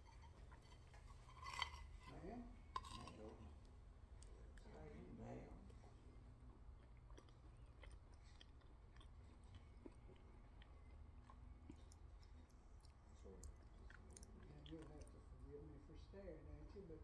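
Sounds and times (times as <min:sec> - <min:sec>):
chewing food: 0:00.0 - 0:05.0, 0:05.6 - 0:15.8
low steady hum: 0:00.0 - 0:17.0.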